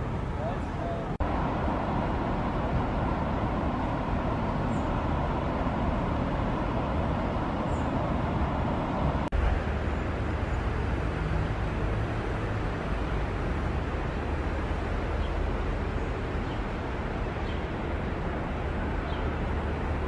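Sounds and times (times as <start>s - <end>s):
low rumbling street ambience: 0.0s - 20.0s
road traffic noise: 0.0s - 20.0s.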